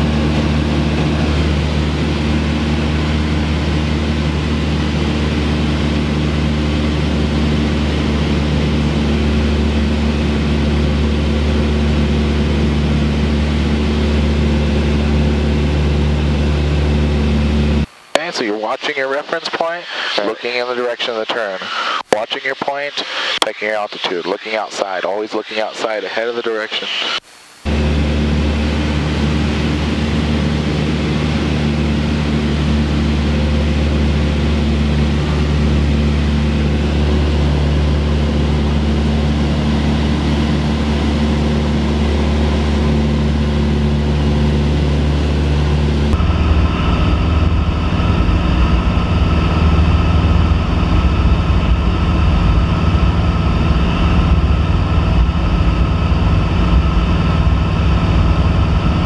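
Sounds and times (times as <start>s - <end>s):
aircraft engine and propeller droning: 0.0s - 17.9s, 27.7s - 59.0s.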